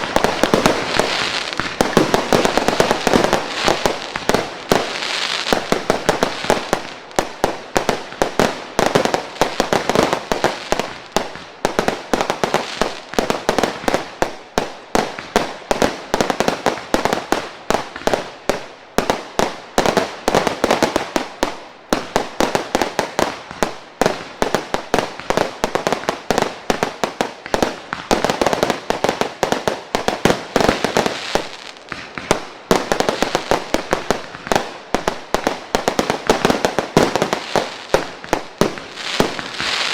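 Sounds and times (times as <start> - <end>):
fireworks crackling: 0.0 - 39.9
fireworks firing and bursting: 0.0 - 39.9.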